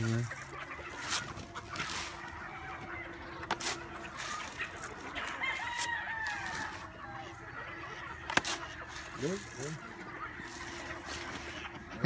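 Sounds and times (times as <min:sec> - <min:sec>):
hens and roosters clucking: 0:00.0 - 0:12.0.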